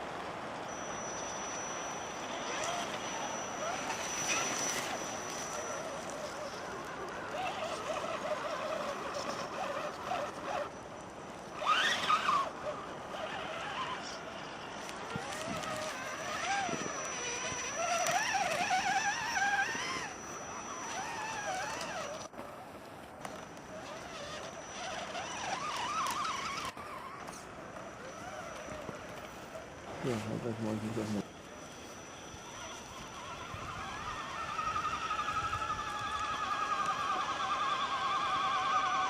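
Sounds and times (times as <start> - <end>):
small engine revving: 0.7 - 10.8, 11.5 - 22.4, 23.2 - 39.0.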